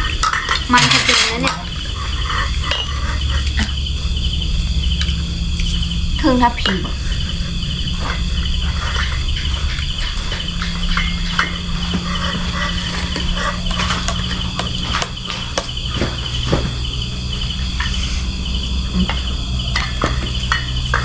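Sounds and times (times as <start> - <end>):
crickets chirping: 0.0 - 21.0
low steady hum: 0.0 - 21.0.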